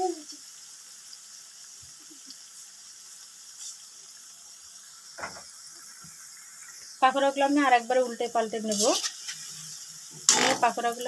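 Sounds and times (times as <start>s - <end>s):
bubbling oil hissing: 0.0s - 11.0s.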